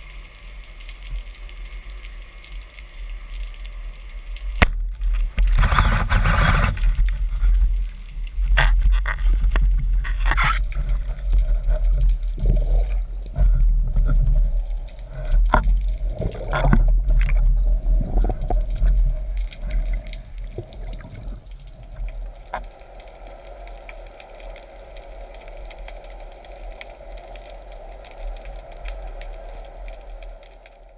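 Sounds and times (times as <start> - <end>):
steady underwater hum: 0.0 - 30.9
low underwater rumble: 4.7 - 30.9.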